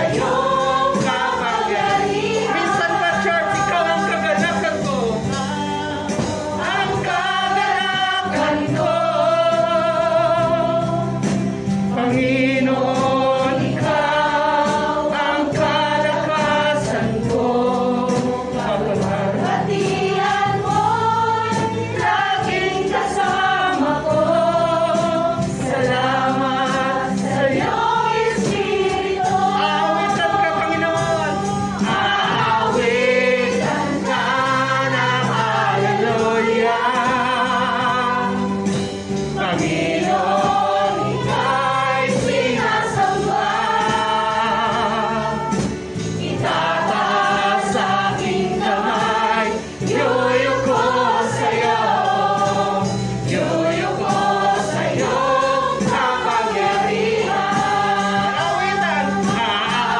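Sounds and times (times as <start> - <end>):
group singing gospel song: 0.0 - 59.9
instrumental accompaniment: 0.0 - 59.9.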